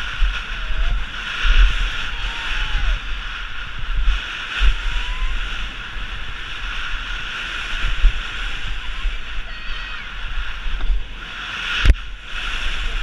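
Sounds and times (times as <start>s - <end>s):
steady hiss: 0.0s - 13.0s
wind buffeting microphone: 0.0s - 13.0s.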